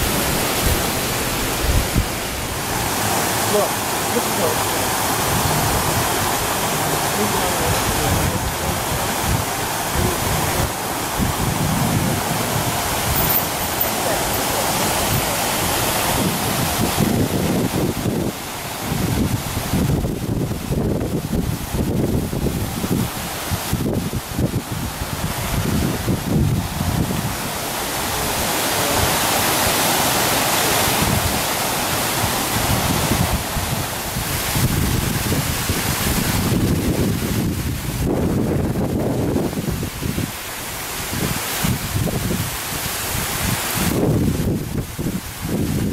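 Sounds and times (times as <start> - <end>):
steady rushing noise: 0.0 - 45.9
wind buffeting microphone: 0.0 - 45.9.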